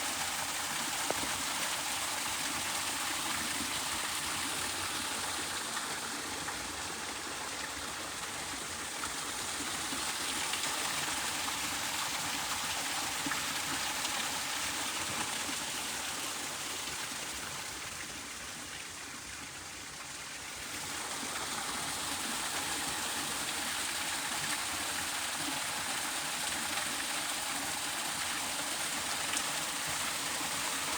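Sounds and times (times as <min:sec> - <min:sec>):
stream water flowing: 0:00.0 - 0:30.9.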